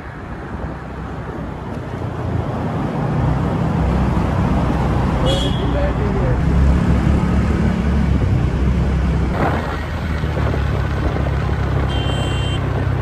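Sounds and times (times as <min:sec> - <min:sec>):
wind rumble on microphone: 0:00.0 - 0:05.2, 0:06.3 - 0:13.0
vehicle road noise: 0:00.0 - 0:13.0.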